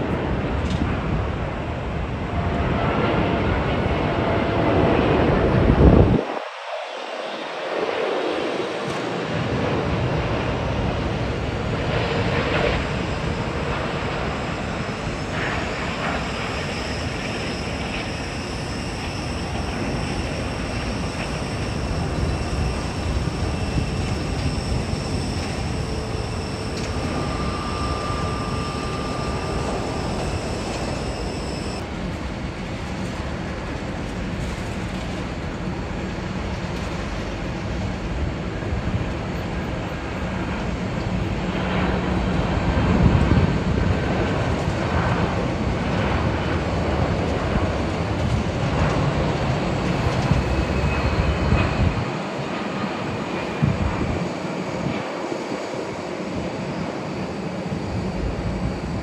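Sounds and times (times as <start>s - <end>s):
high engine whine: 0.0s - 59.0s
jet engines rumbling: 0.0s - 59.0s.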